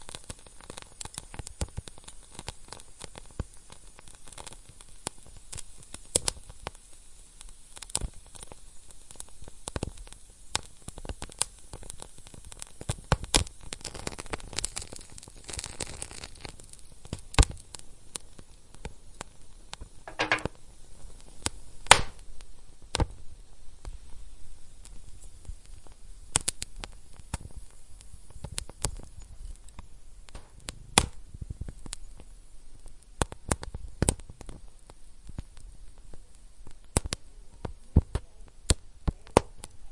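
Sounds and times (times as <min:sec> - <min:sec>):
fire hissing: 0:00.0 - 0:39.9
wood fire crackling and popping: 0:00.0 - 0:39.9.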